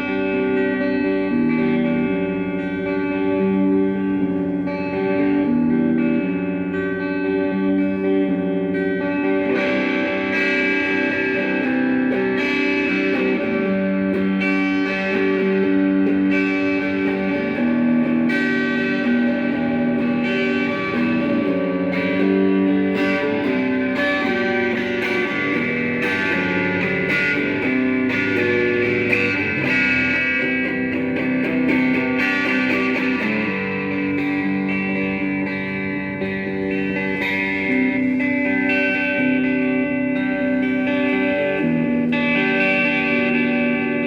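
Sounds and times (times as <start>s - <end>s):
overdriven electric guitar: 0.0s - 44.0s.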